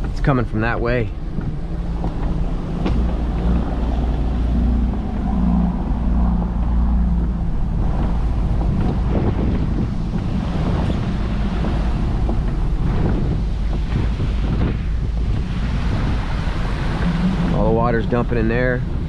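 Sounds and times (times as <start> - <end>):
car engine humming: 0.0 - 19.0
rushing wind and water: 0.0 - 19.0.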